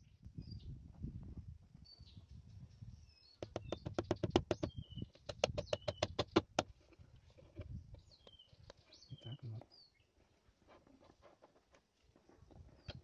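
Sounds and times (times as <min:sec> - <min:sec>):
faint birdsong: 0:00.0 - 0:00.8, 0:01.7 - 0:13.0.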